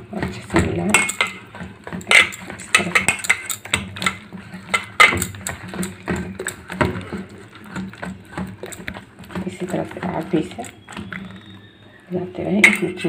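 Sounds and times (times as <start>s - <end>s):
hand squeezing wet batter: 0.0s - 13.0s.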